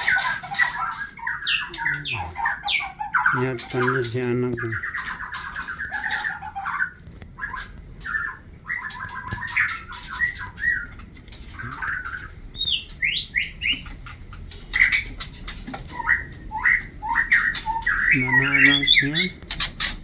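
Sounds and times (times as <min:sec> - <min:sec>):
birds chirping harshly: 0:00.0 - 0:20.0.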